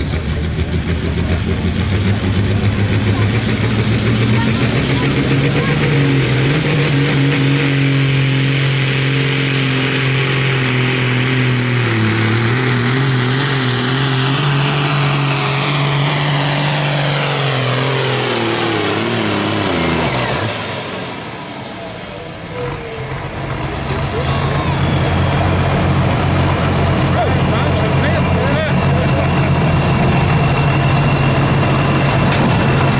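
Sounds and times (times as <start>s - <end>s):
engine running under load: 0.0s - 32.9s.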